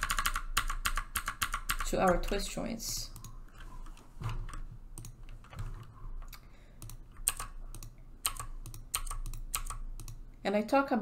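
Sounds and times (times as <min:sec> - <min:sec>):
typing on computer keyboard: 0:00.0 - 0:10.2.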